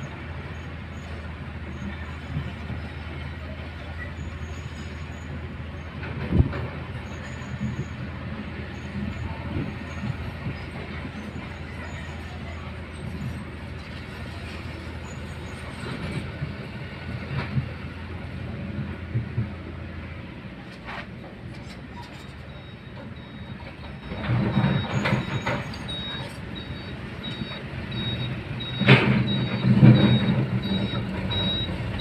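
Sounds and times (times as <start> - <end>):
diesel engines running: 0.0 - 32.0.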